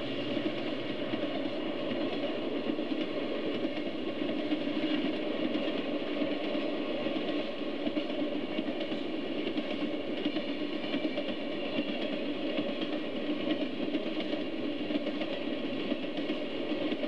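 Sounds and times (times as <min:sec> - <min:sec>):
faint track clicking: 0:00.1 - 0:17.0.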